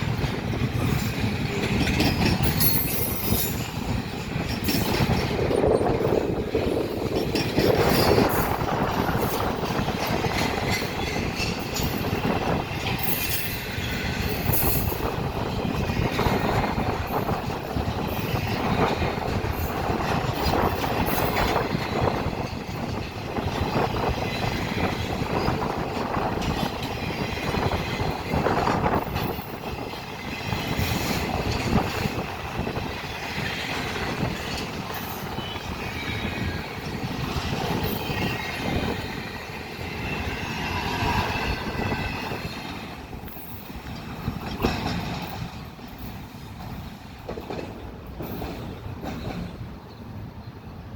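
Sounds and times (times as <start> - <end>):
clacks over rail joints: 0.0 - 50.6
wheels rumbling on rail: 0.0 - 50.9.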